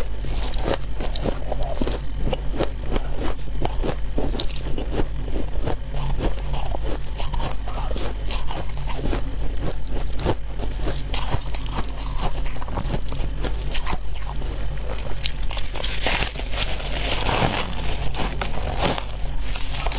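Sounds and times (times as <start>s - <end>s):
chewing crunchy ice: 0.0s - 19.9s
steady low hum: 0.0s - 19.9s.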